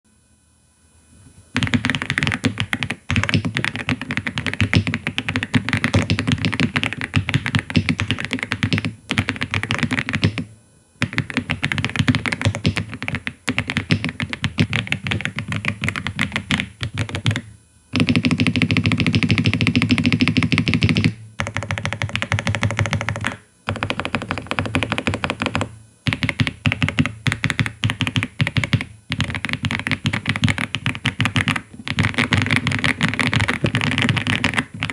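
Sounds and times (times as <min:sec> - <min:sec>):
typing on mechanical keyboard: 0:01.6 - 0:34.9.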